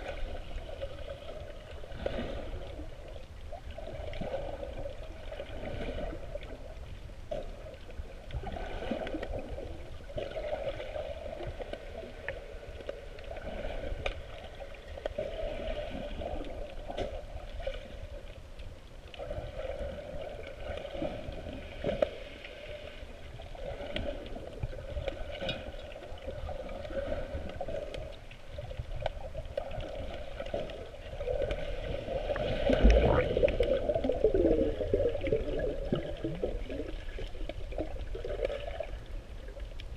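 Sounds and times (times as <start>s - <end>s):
underwater swishing and gurgling: 0.0s - 39.9s.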